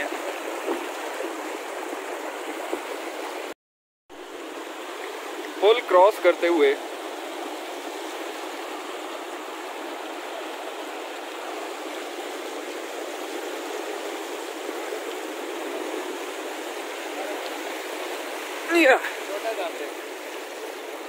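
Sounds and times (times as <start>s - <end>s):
river rushing: 0.0s - 3.5s, 4.2s - 21.0s.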